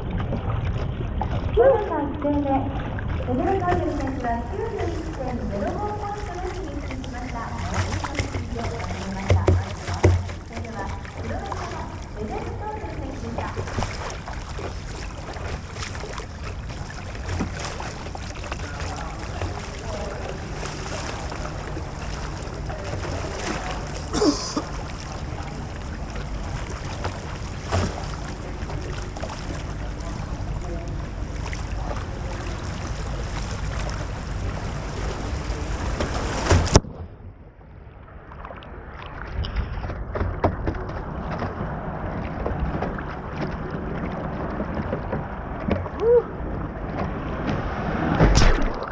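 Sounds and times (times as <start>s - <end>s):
quieter water sound: 0.0s - 48.9s.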